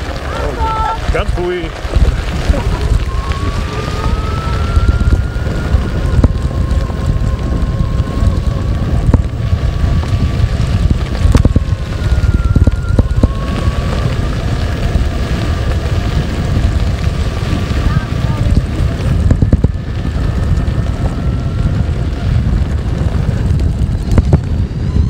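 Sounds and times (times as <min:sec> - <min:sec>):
electric motor whine: 0:00.0 - 0:25.0
wind buffeting microphone: 0:00.0 - 0:25.0.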